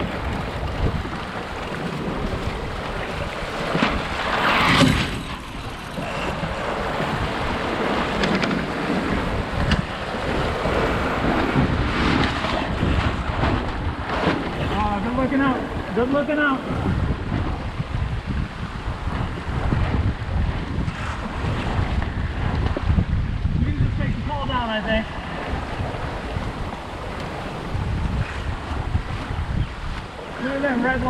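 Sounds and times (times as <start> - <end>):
water splashing along hull: 0.0 - 31.0
wind buffeting microphone: 0.0 - 31.0.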